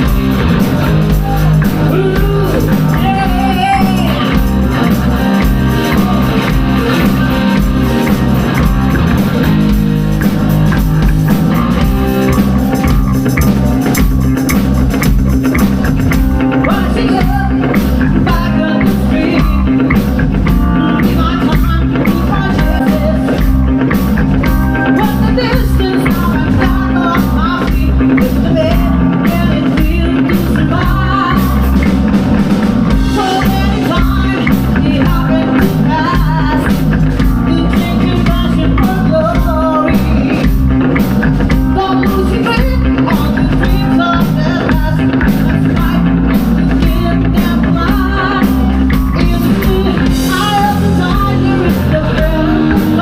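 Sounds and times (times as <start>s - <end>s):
person singing: 0.0s - 32.0s, 32.9s - 53.0s
bass guitar: 0.0s - 53.0s
drum kit beat: 0.0s - 53.0s
electric guitars: 0.0s - 53.0s.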